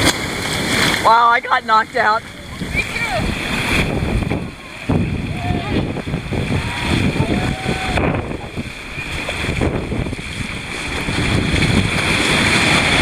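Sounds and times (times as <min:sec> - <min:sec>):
surf breaking: 0:00.0 - 0:13.0
wind buffeting microphone: 0:00.6 - 0:13.0.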